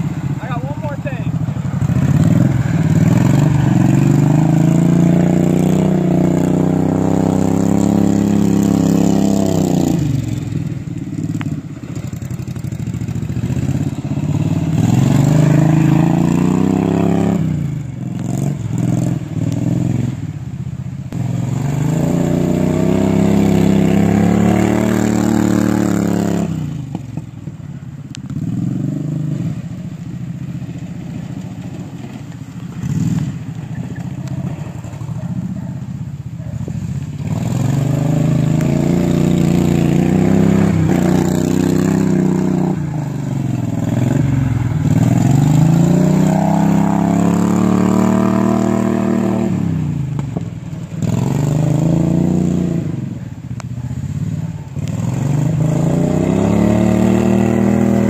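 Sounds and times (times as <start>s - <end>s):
lawnmower engine revving: 0.0s - 20.1s, 21.2s - 27.0s, 30.4s - 35.5s, 36.6s - 53.1s, 54.0s - 58.0s.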